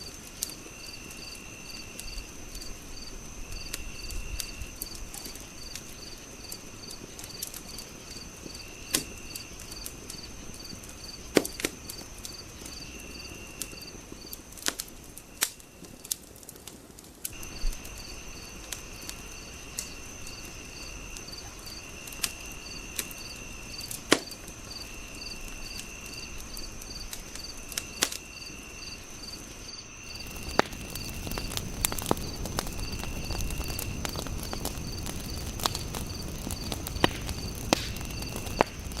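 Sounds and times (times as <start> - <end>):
crickets chirping: 0.0 - 16.2, 17.3 - 39.0
low rush of fire: 0.0 - 39.0
wood fire crackling and popping: 0.0 - 39.0.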